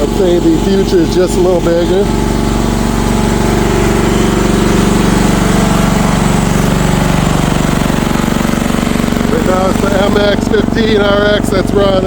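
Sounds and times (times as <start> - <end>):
excavator engine idling: 0.0 - 12.0.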